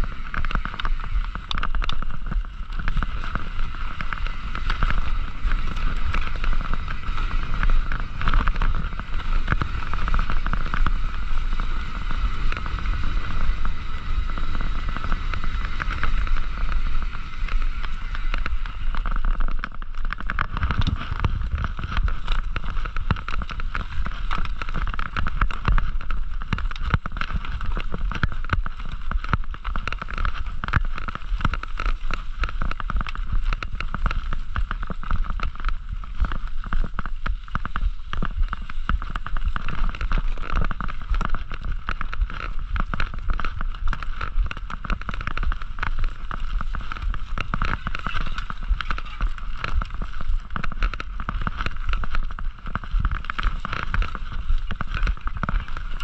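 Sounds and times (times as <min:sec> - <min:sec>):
bike rattling over rough ground: 0:00.0 - 0:56.0
bike tyres rumbling: 0:00.0 - 0:56.0
wind on microphone: 0:00.0 - 0:56.0.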